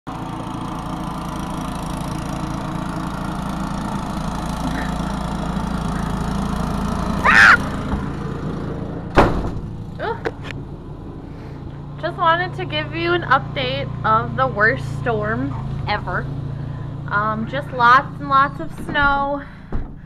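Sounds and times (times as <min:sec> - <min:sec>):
small engine running: 0:00.1 - 0:18.6.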